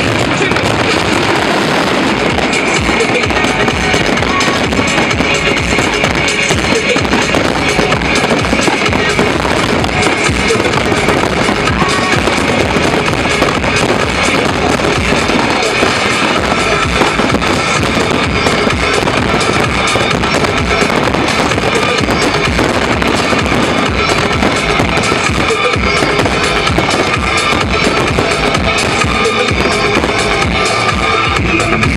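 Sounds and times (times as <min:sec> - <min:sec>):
fireworks bursting and crackling: 0:00.0 - 0:31.9
loud music playing: 0:00.0 - 0:31.9.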